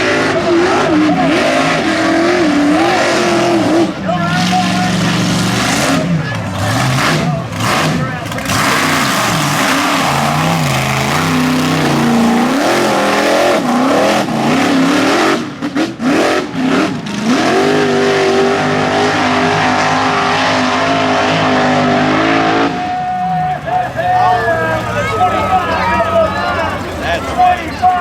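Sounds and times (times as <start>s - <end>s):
truck engine revving hard: 0.0s - 28.0s.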